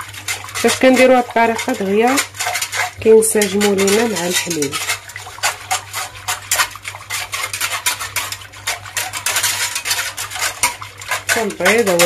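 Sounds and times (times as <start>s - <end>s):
whisk scraping metal saucepan: 0.0s - 12.0s.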